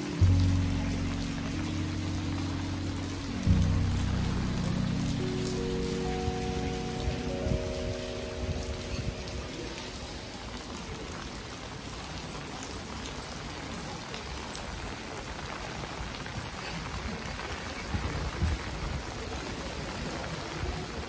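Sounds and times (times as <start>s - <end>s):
rain on stone paving: 0.0s - 21.0s.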